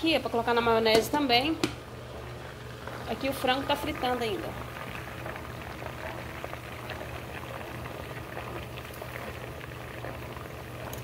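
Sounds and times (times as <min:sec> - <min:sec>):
chicken deep-frying in oil: 0:01.6 - 0:11.0.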